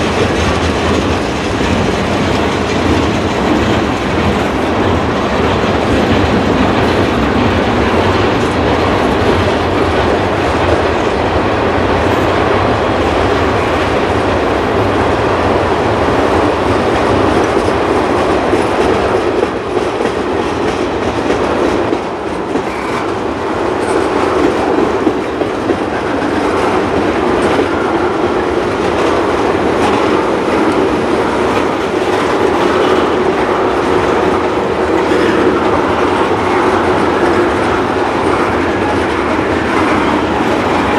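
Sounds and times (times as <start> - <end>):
train wheels rolling on rail: 0.0 - 40.9.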